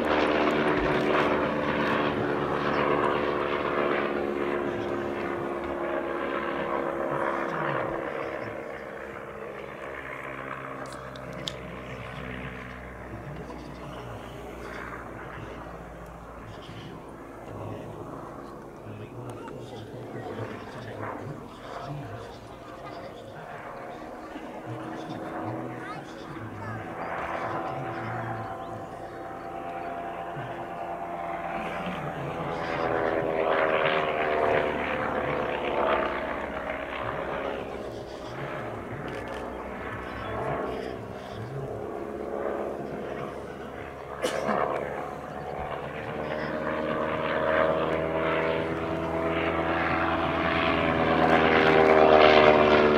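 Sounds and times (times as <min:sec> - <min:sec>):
aircraft engine drone: 0:00.0 - 0:52.9
propeller rush: 0:00.0 - 0:52.9.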